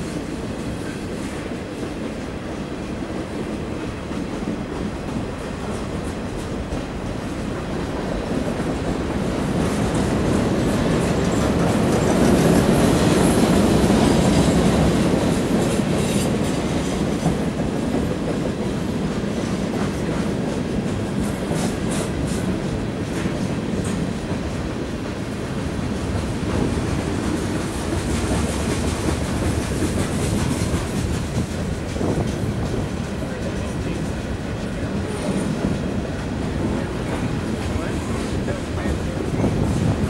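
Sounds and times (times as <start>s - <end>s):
train wheels clattering on rail: 0.0s - 40.0s.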